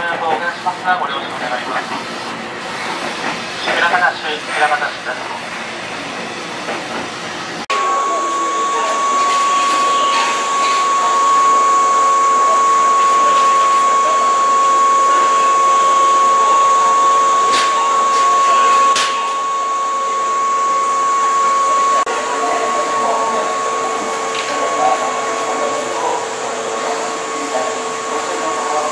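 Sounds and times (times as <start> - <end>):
train equipment whirring with whine: 0.0 - 28.9.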